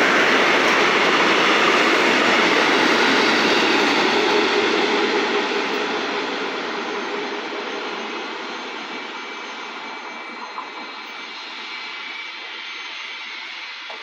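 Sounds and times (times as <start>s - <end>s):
diesel train engine and wheels: 0.0s - 14.0s.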